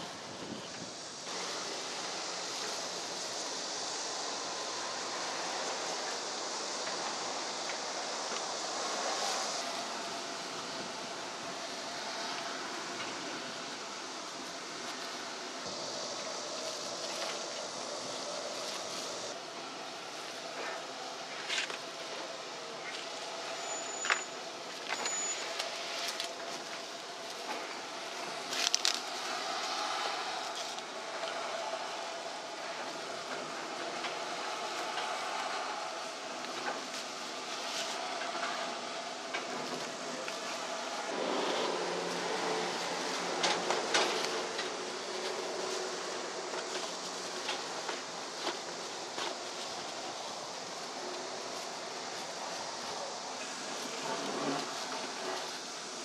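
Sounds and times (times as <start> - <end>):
rushing outdoor background hiss: 0.0 - 56.0.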